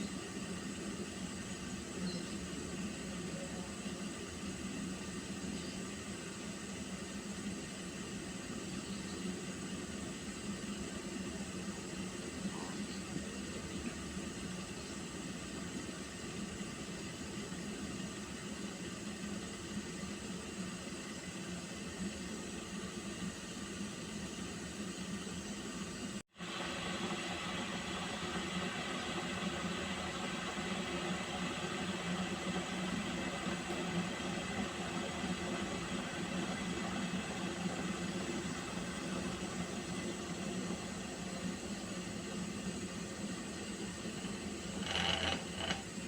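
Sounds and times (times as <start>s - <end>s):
water heating hiss: 0.0s - 46.0s.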